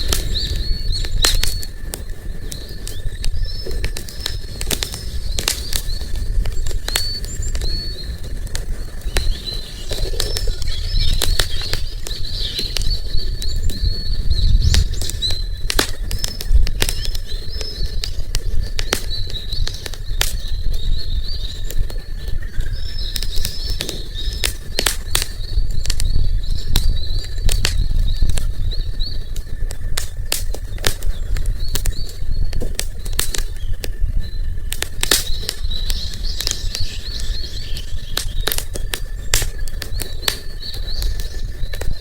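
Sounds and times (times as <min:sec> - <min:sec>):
campfire crackling and popping: 0:00.0 - 0:42.0
small birds chirping: 0:00.0 - 0:42.0.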